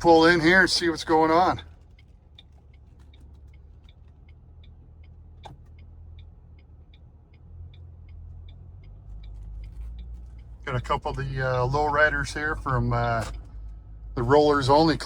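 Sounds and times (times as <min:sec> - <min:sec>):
car engine and road rumble: 0:00.0 - 0:15.0
turn signal clicking: 0:00.0 - 0:15.0.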